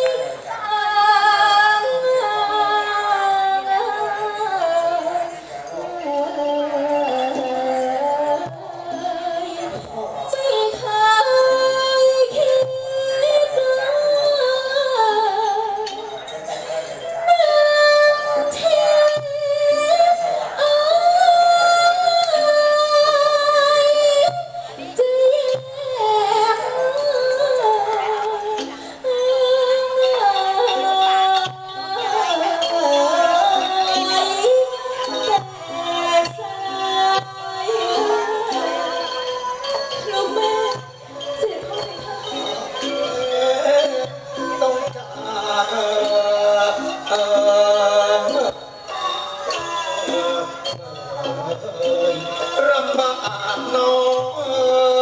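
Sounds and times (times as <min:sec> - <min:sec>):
backing music: 0:00.0 - 0:55.0
woman singing into microphone: 0:00.0 - 0:55.0.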